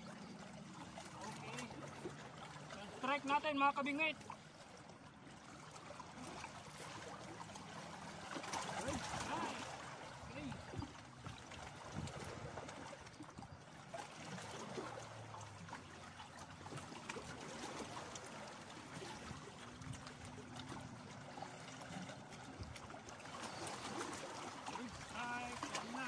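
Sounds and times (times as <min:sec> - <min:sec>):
small waves lapping on rocks: 0:00.0 - 0:26.0.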